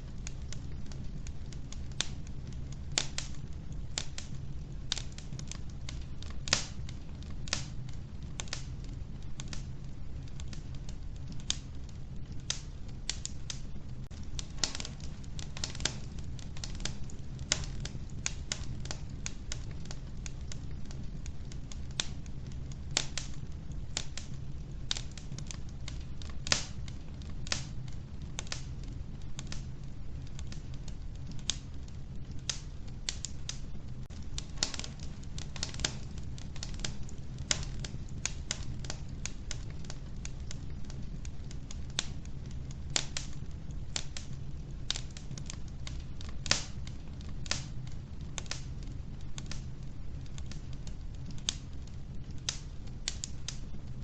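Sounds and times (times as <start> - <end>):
wood fire crackling in a stove: 0.0 - 54.0.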